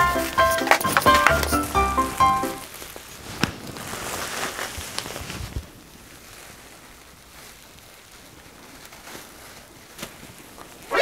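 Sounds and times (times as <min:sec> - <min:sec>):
bubble wrap rustling and crinkling: 0:00.0 - 0:10.9.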